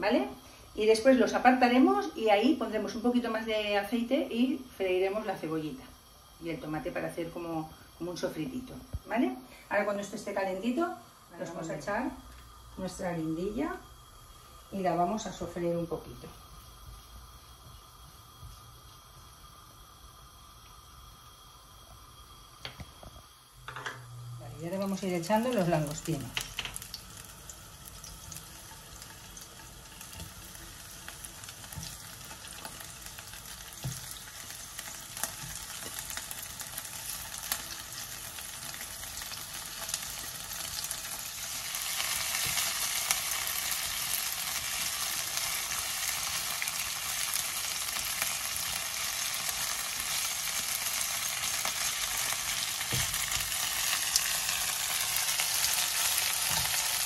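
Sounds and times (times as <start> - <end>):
prawns sizzling in hot oil: 0.0 - 57.0.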